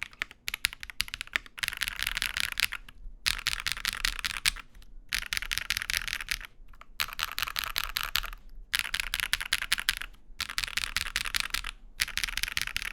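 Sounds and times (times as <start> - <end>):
mechanical keyboard typing: 0.0 - 12.9.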